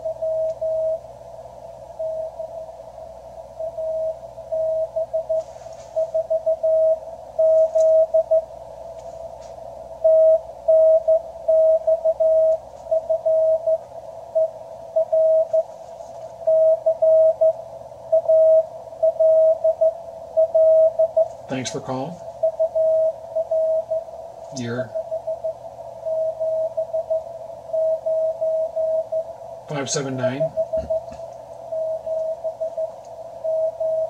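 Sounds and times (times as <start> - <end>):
morse code tone: 0.0 - 1.0, 2.0 - 2.7, 3.6 - 8.5, 10.0 - 13.8, 14.4 - 15.8, 16.4 - 34.0.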